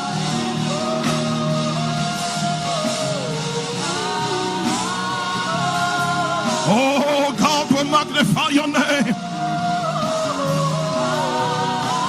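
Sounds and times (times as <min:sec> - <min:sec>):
slow instrumental worship music: 0:00.0 - 0:12.0.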